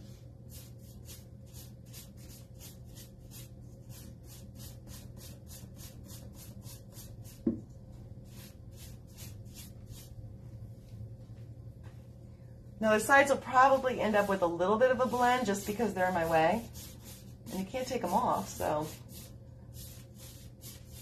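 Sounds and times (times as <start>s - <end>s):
paintbrush scrubbing on wood: 0.0s - 7.6s, 8.2s - 10.2s, 12.9s - 21.0s.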